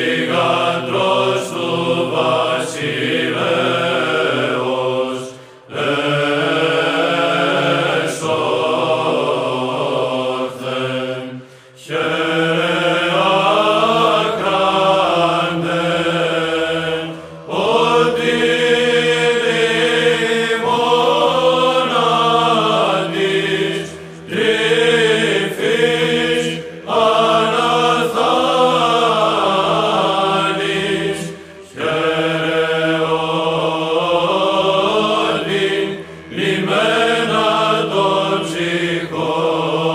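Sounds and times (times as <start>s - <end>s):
voices chanting: 0.0s - 39.9s.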